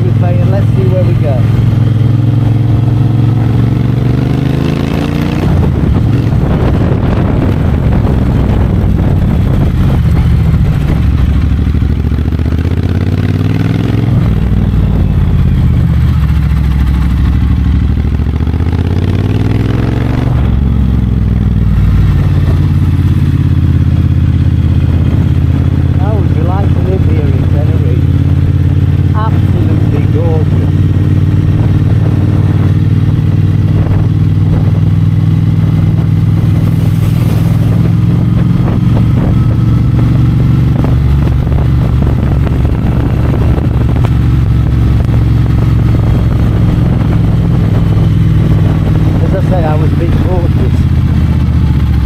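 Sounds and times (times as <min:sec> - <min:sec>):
motorcycle engine revving up: 0:00.0 - 0:52.0.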